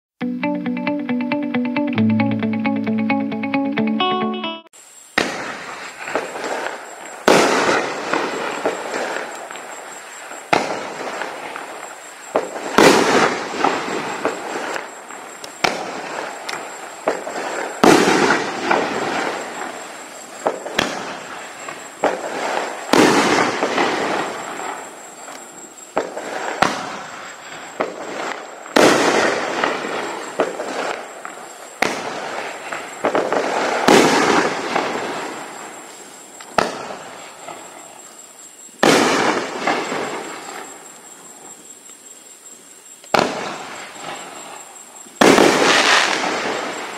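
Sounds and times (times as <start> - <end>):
firework aerial break echoing: 5.1 - 38.1, 38.8 - 41.0, 43.1 - 46.9.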